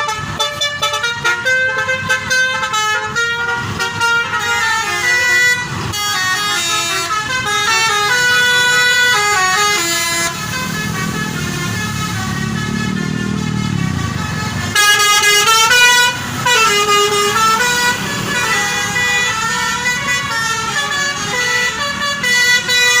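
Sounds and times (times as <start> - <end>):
musical bus horns playing melodies: 0.0 - 23.0.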